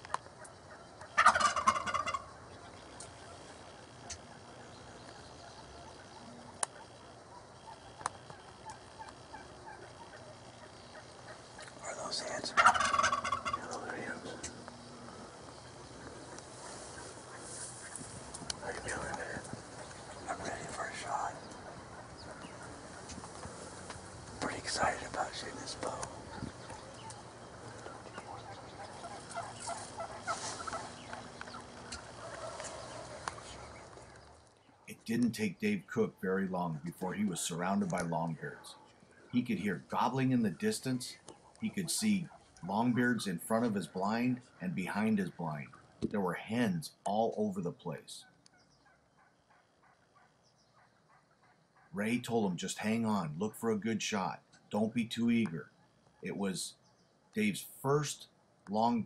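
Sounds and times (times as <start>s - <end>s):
turkey gobbling: 0.0s - 46.5s, 48.2s - 52.2s.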